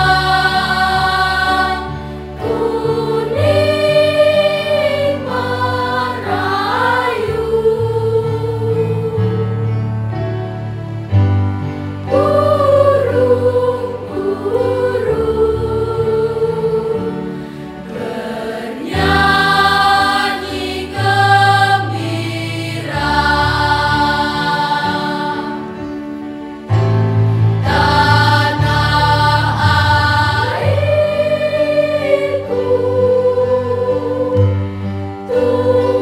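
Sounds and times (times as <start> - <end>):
choir singing in parts: 0.0 - 10.2, 12.0 - 36.0.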